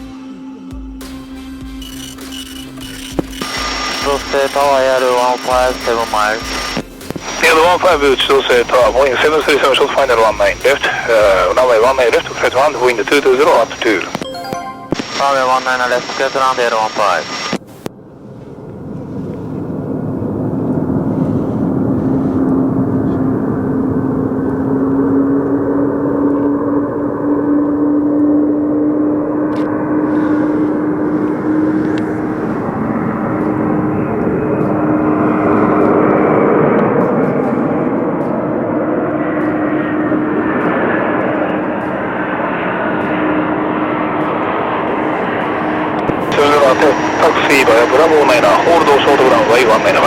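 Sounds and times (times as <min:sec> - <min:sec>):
droning whine: 0:00.0 - 0:50.0
jet engines roaring: 0:02.0 - 0:50.0.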